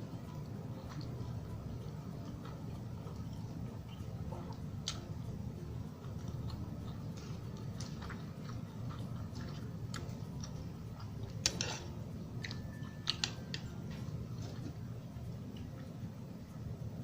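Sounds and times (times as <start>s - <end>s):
steady low hum: 0.0s - 17.0s
person chewing: 0.6s - 16.0s.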